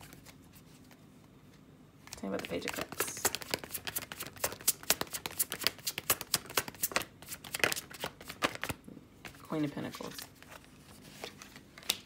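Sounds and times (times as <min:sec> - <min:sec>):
cards being shuffled: 0:02.0 - 0:12.0.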